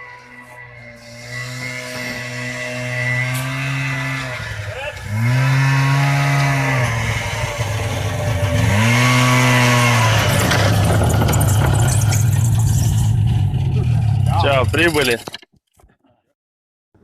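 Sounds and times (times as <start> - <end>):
small petrol engine revving: 0.0 - 15.0.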